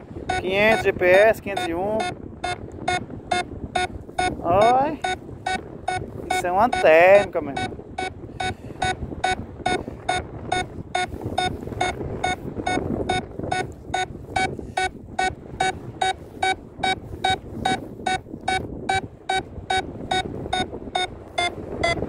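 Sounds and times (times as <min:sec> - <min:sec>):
wind on microphone: 0:00.0 - 0:22.0
variometer beeping: 0:00.2 - 0:22.0.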